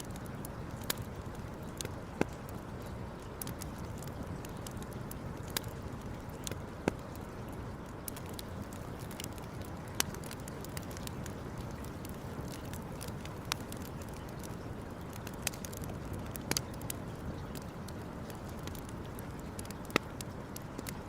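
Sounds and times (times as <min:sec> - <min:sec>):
campfire crackling and popping: 0:00.0 - 0:21.0
steady low hiss: 0:00.0 - 0:21.0.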